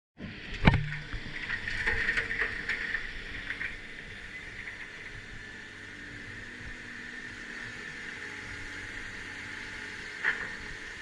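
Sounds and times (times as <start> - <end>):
heavy machinery hum: 0.2 - 11.0
high whine: 0.2 - 11.0.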